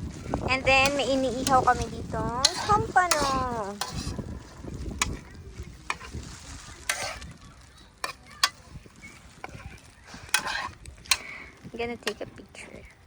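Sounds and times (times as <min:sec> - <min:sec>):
fish sizzling over fire: 0:00.0 - 0:13.0
wind on microphone: 0:00.0 - 0:13.0.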